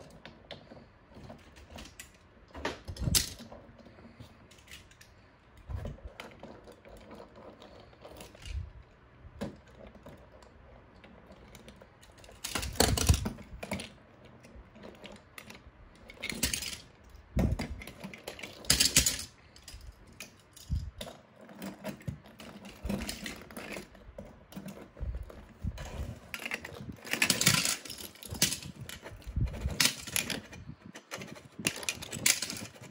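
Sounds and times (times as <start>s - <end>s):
toy cars clicking and clattering: 0.0s - 32.9s.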